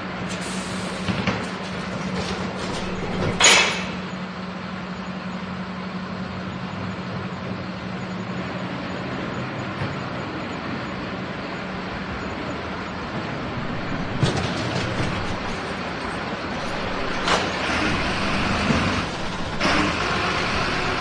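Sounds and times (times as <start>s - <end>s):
garbage truck engine running: 0.0s - 21.0s.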